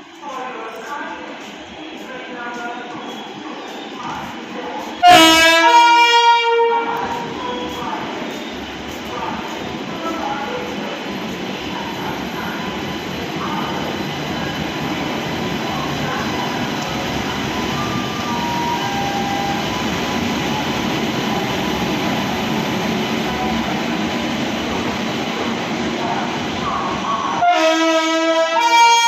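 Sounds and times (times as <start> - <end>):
train rumbling on tracks: 0.0 - 29.0.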